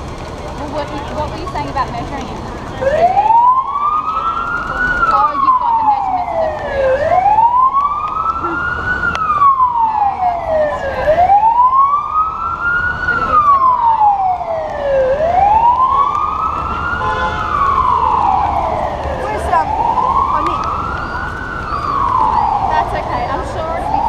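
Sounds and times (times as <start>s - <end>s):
emergency siren wailing: 0.0s - 24.0s.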